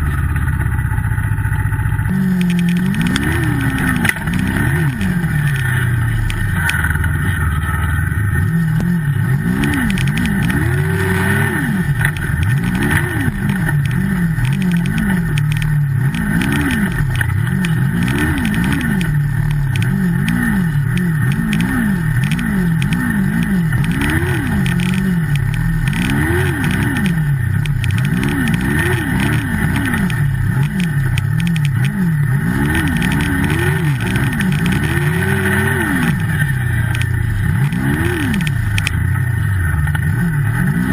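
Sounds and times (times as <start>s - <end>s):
snowmobile engine revving: 2.0s - 40.9s.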